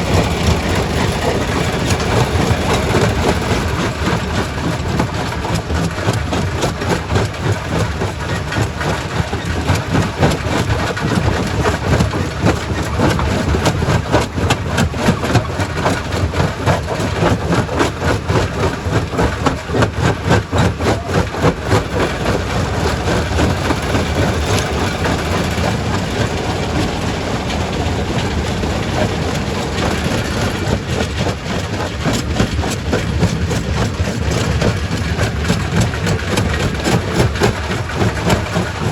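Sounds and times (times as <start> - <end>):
low machine drone: 0.0 - 38.9.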